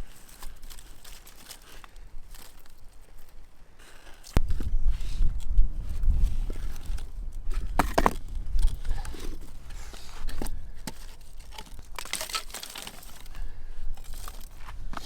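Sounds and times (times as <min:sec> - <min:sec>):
kindling snapping and crunching: 0:00.0 - 0:04.7, 0:06.5 - 0:15.0.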